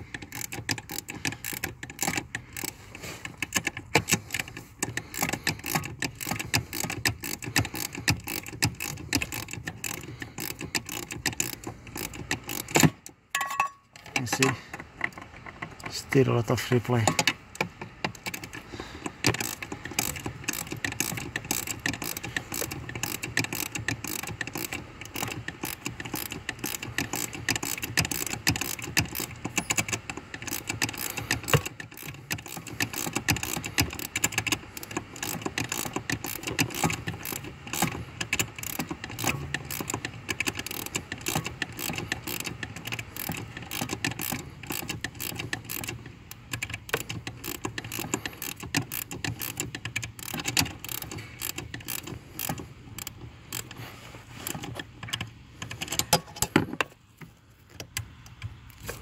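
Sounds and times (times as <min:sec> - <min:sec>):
ratchet spanner clicking: 0:00.0 - 0:56.7.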